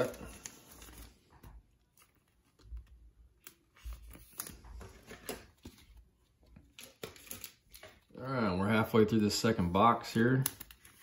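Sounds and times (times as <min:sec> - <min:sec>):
trading cards clicking and rustling: 0:00.0 - 0:08.1, 0:10.1 - 0:11.0.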